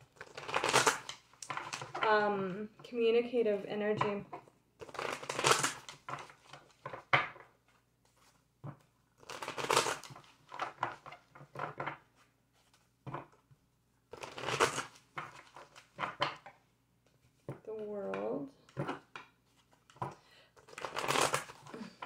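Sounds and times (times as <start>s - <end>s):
cards being shuffled: 0.0s - 2.0s, 4.1s - 13.4s, 14.1s - 22.0s.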